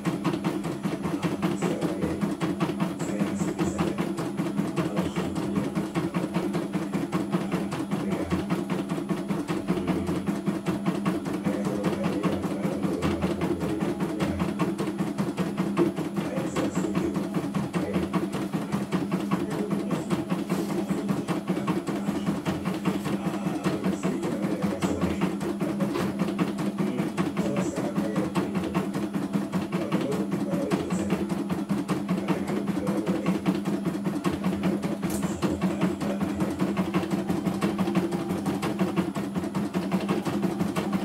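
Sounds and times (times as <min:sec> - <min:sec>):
steady motor hum: 0:00.0 - 0:41.0.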